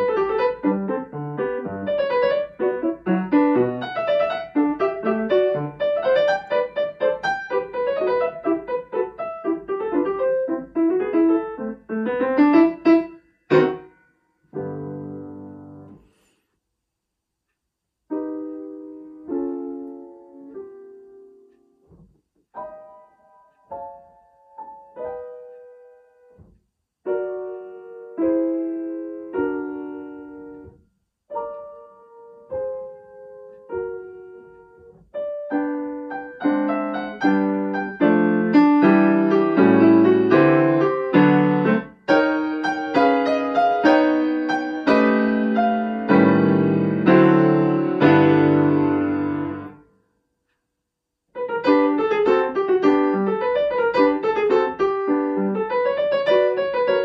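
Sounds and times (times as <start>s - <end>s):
grand piano playing: 0.0s - 16.0s, 18.1s - 21.6s, 22.6s - 26.4s, 27.1s - 30.7s, 31.3s - 49.8s, 51.4s - 57.0s.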